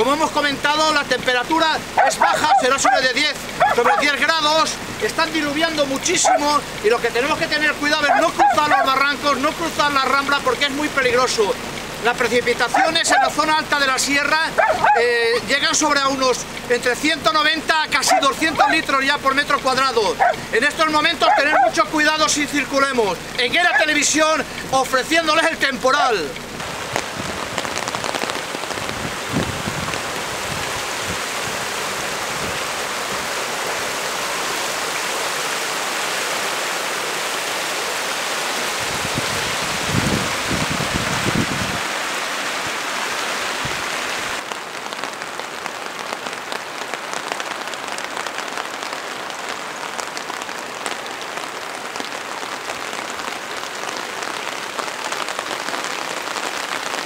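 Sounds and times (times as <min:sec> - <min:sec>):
torrential rain hiss: 0:00.0 - 0:57.0.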